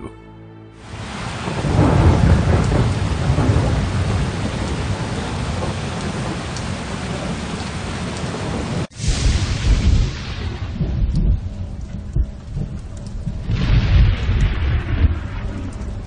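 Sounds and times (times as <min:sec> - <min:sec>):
heavy rain: 0:00.8 - 0:16.0
thunder rumbling: 0:00.8 - 0:16.0.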